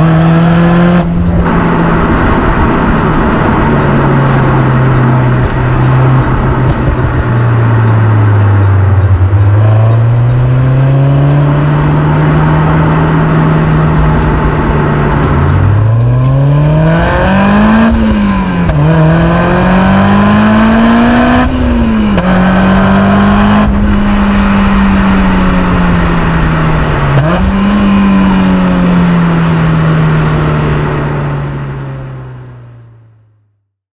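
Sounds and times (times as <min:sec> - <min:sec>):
sports car engine accelerating: 0:00.0 - 0:33.5.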